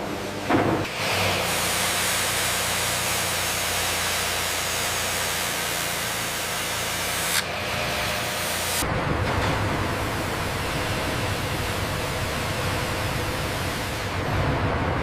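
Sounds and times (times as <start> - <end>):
steady loud hiss: 1.1 - 8.8, 9.6 - 14.3.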